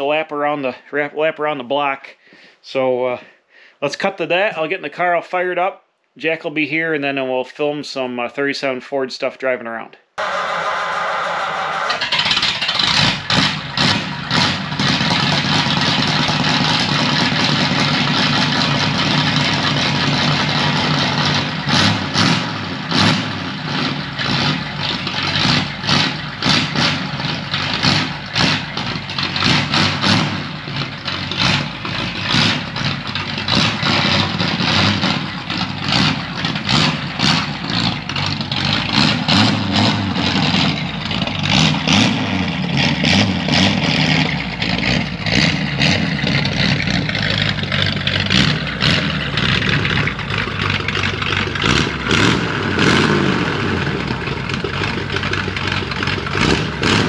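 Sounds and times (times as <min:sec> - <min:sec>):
car engine running rough: 0:10.2 - 0:57.0
engine revving blips: 0:10.2 - 0:57.0
sharp exhaust pops: 0:10.2 - 0:57.0.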